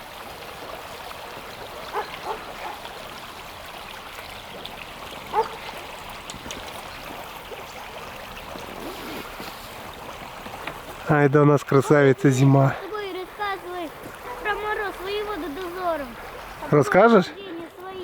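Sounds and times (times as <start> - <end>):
river water running: 0.0 - 18.0.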